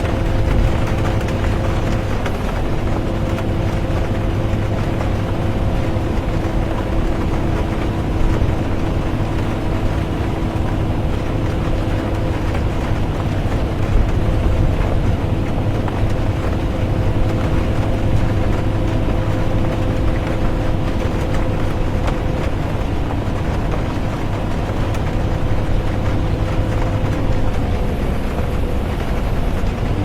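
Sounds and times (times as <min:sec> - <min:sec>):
bus engine and road rumble: 0:00.0 - 0:30.0
rain pattering on bus: 0:00.0 - 0:30.0.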